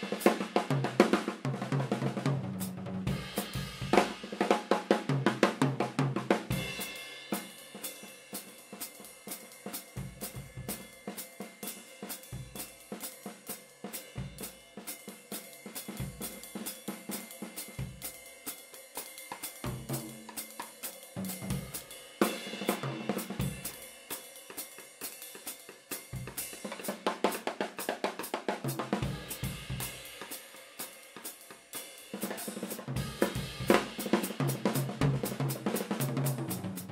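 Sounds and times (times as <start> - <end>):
drum kit played with sticks: 0.0 - 36.9.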